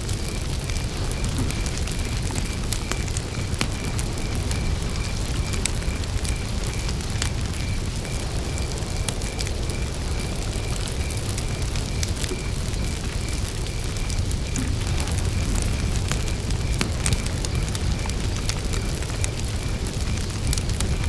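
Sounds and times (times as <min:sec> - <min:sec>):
campfire crackling: 0:00.0 - 0:21.0
cricket chirping: 0:00.0 - 0:21.0.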